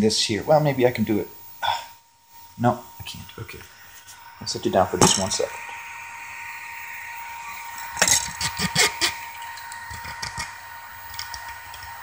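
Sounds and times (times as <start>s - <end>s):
steady whine: 0.0s - 12.0s.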